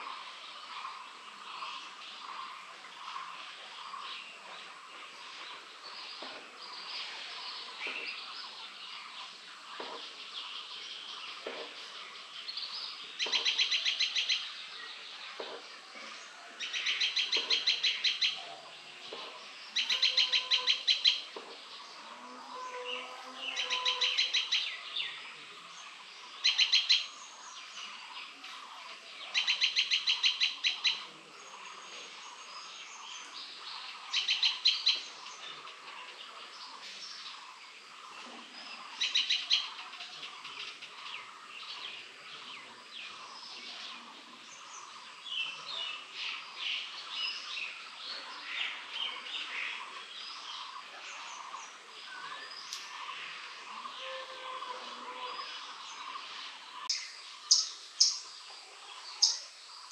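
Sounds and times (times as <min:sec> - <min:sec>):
soft scattered bird chirps: 0:00.0 - 0:59.9.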